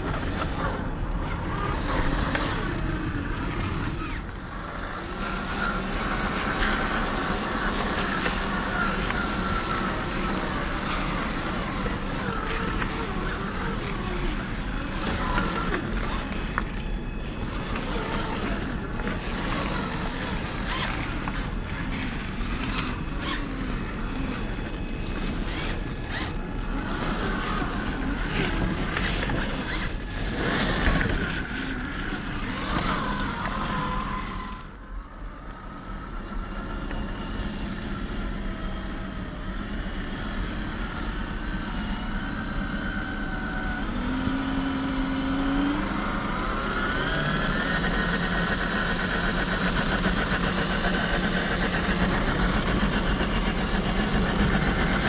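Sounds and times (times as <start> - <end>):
electric motor and gearbox whining: 0.0 - 55.0.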